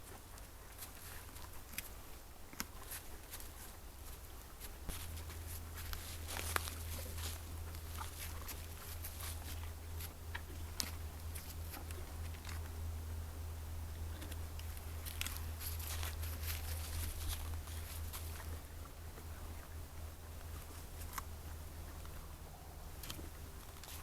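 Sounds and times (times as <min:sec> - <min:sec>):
light ticks and rustles: 0:00.0 - 0:13.2, 0:13.8 - 0:24.0
steady low hum: 0:00.0 - 0:24.0.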